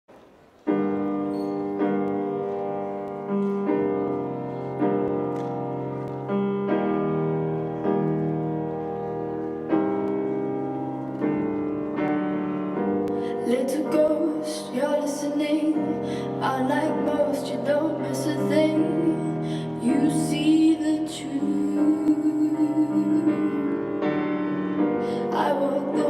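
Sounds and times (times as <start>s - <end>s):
piano playing sustained chords: 0.6s - 26.0s.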